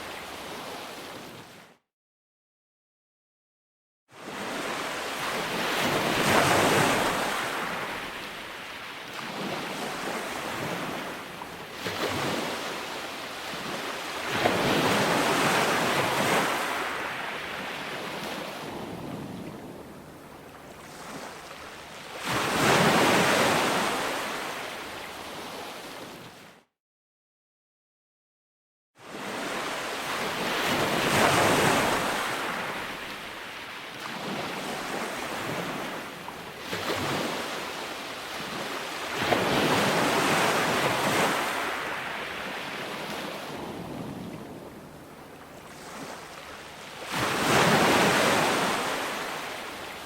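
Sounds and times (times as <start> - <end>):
ocean waves washing onto beach: 4.2 - 26.5, 29.0 - 50.0.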